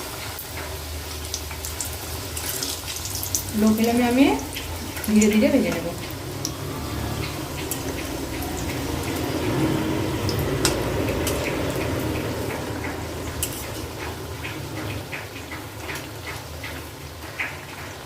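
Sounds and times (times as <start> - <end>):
food sizzling in deep oil: 0.0 - 18.0.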